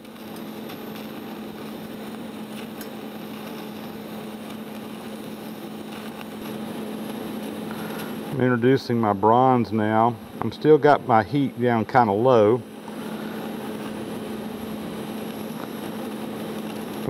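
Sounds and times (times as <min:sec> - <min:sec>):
welding arc humming and hissing: 0:00.0 - 0:17.0.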